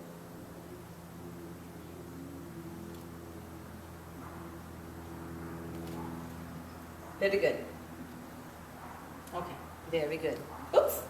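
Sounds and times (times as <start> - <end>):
faint background hum and hiss: 0.0 - 11.0.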